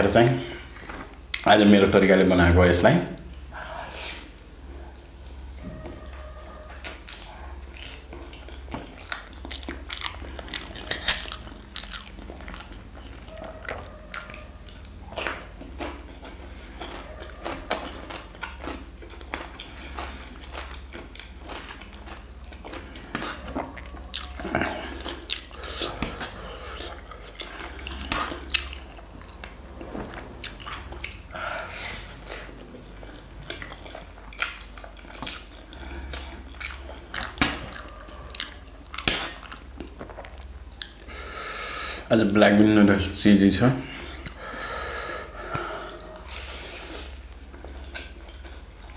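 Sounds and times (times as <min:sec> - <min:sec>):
man chewing noodles: 0:03.2 - 0:42.1, 0:43.8 - 0:48.9.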